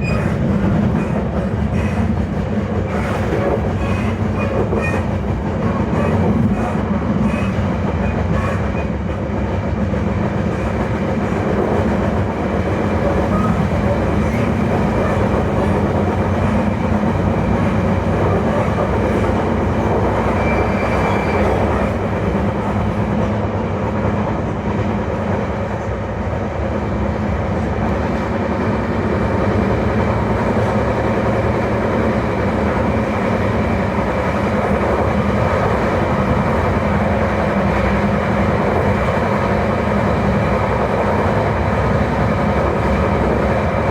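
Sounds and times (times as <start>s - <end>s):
train running noise: 0.0s - 43.9s.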